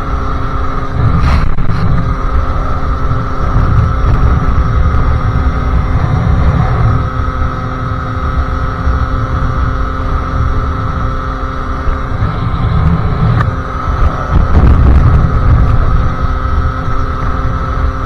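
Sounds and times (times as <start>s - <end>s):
two-stroke motorcycle engine: 0.0s - 18.0s
wind rumbling on microphone: 0.0s - 18.0s.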